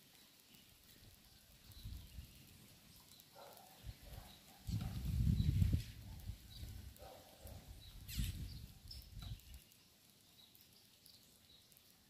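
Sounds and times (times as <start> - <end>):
small birds chip calls: 0.0 - 12.0.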